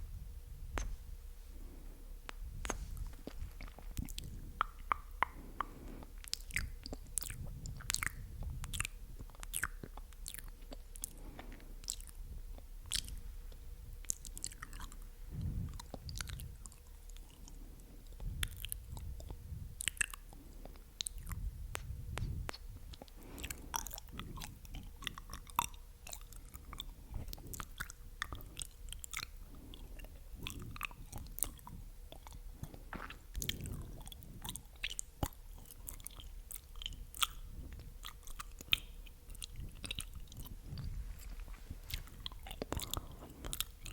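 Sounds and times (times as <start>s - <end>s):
wet lip and tongue clicks: 0.7s - 1.0s, 2.3s - 43.9s.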